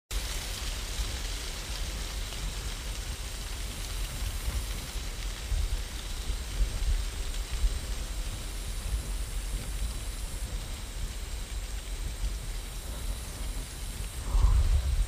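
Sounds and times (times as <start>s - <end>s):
steady rushing hiss: 0.1s - 15.0s.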